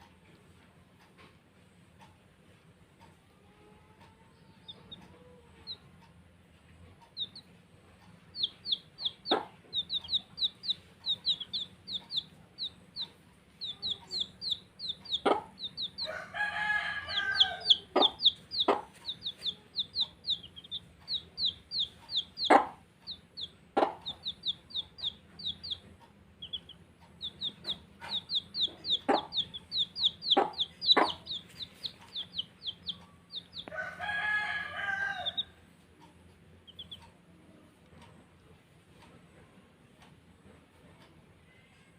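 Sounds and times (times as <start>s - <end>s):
chicks peeping: 3.0s - 38.2s.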